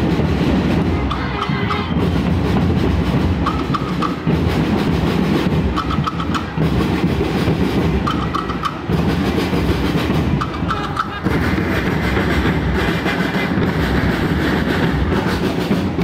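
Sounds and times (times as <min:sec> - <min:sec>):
marching band drums: 0:00.0 - 0:16.0.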